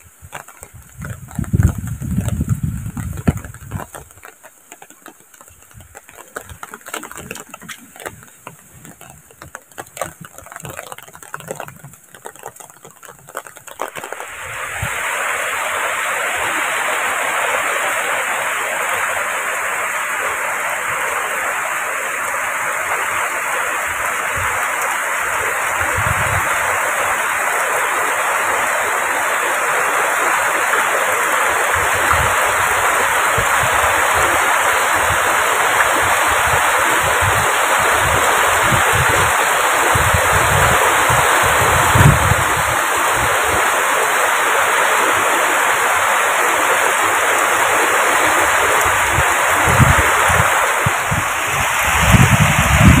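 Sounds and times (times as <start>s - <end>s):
heavy rain pouring: 0.0s - 53.0s
light rain taps: 0.0s - 53.0s.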